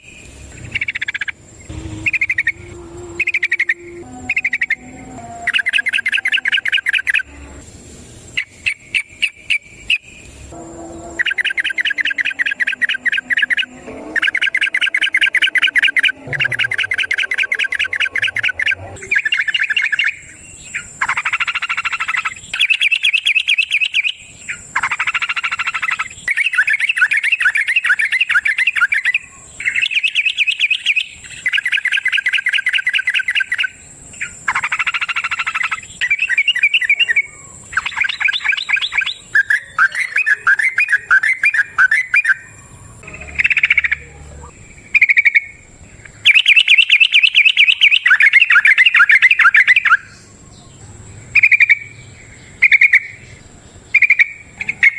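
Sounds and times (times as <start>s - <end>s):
bird singing chattering phrases: 0.0s - 7.6s, 11.1s - 24.2s, 24.8s - 54.9s.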